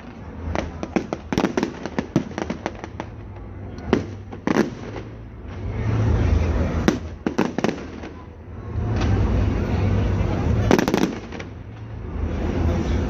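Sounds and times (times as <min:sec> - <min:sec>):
fireworks cracking and banging: 0:00.0 - 0:12.6.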